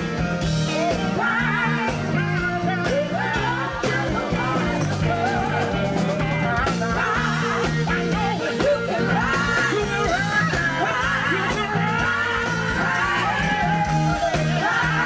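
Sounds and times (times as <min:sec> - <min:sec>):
band playing beat and bass: 0:00.0 - 0:15.0
voices singing and shouting: 0:00.0 - 0:15.0.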